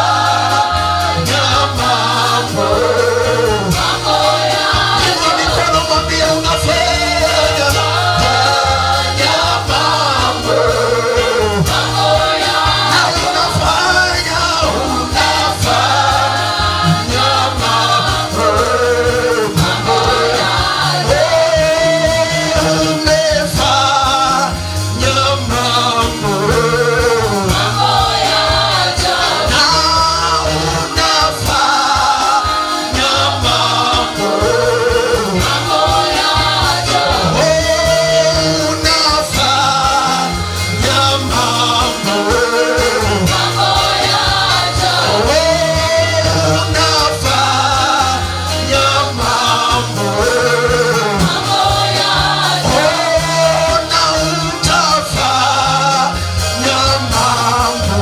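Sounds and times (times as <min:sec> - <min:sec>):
bass line: 0:00.0 - 0:58.0
singers with band: 0:00.0 - 0:58.0.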